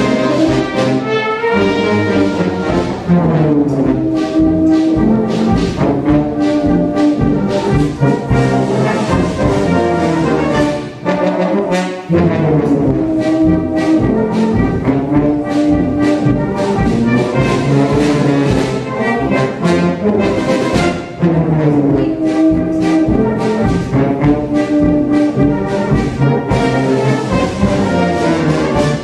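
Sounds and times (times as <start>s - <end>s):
brass music with steady beat: 0.0s - 29.0s.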